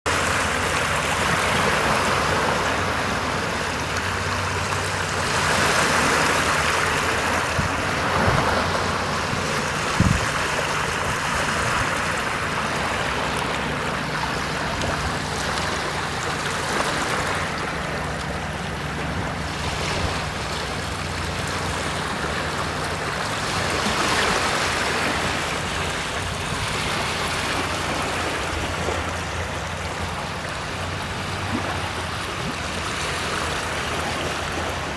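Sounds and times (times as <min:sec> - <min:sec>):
sea waves washing in: 0:00.1 - 0:34.9.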